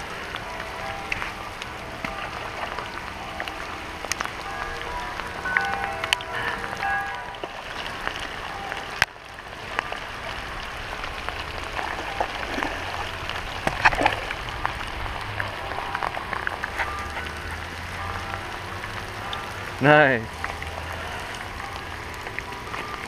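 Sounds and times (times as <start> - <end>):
rain on pavement and water: 0.0 - 23.0.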